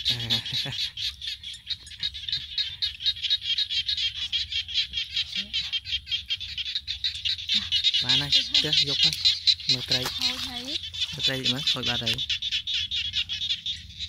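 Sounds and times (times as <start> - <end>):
chorus of frogs calling: 0.0 - 14.0.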